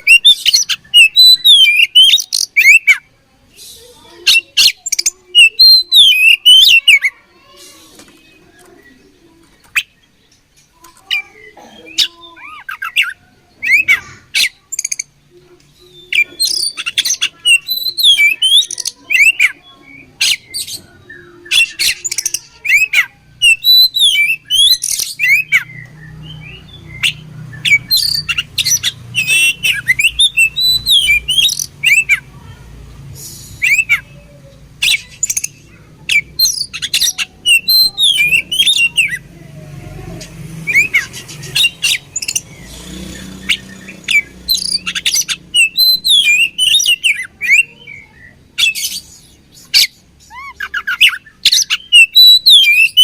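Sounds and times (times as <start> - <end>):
bird singing harsh notes and whistles: 0.0 - 3.0, 3.6 - 7.2, 12.0 - 15.1, 15.8 - 32.3, 33.1 - 39.3, 40.6 - 53.0.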